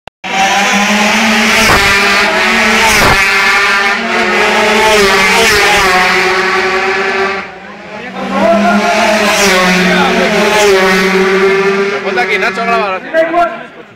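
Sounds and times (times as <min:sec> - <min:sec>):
racing motorcycles passing: 0:00.3 - 0:13.9.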